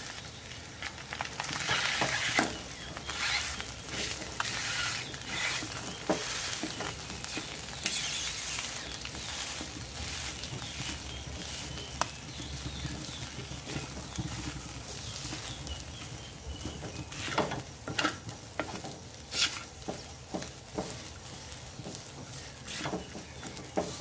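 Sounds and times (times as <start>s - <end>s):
rice sizzling: 0.0s - 24.0s
wooden spatula scraping a wok: 0.2s - 24.0s.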